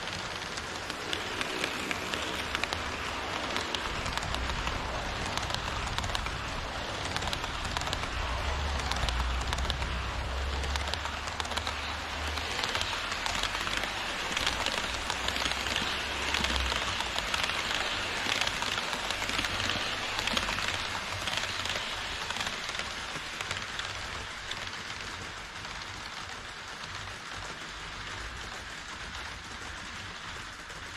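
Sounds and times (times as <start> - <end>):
model train wheels clattering: 0.0 - 30.9.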